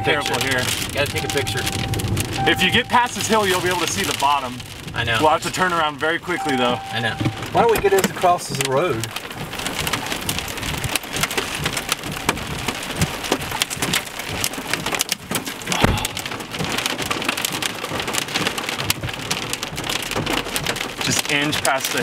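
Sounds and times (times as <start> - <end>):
rain on car windshield and roof: 0.0 - 22.0.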